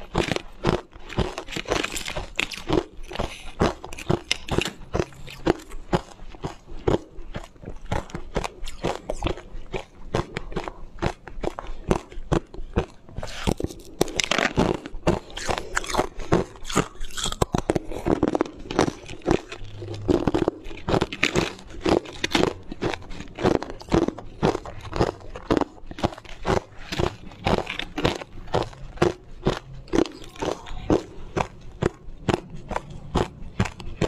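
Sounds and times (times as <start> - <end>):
chewing and crunching ice: 0.0 - 34.0.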